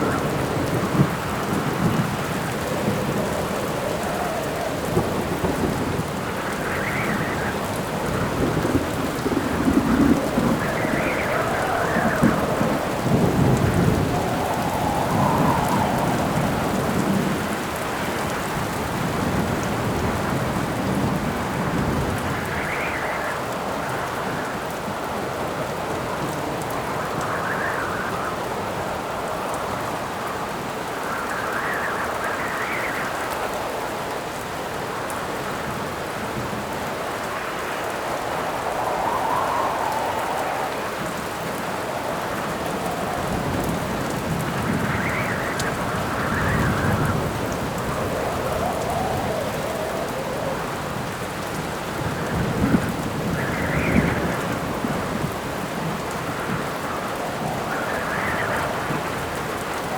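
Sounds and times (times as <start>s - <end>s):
low rolling thunder: 0.0s - 33.5s, 36.2s - 59.9s
gusts of wind: 0.0s - 59.9s
steady rain hiss: 0.0s - 59.9s.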